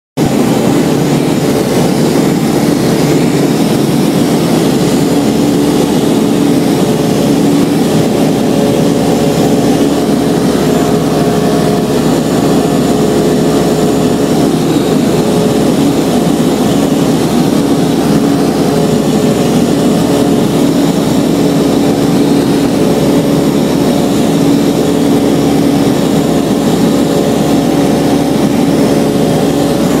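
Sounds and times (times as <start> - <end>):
aircraft engine and propeller droning: 0.2 - 30.0.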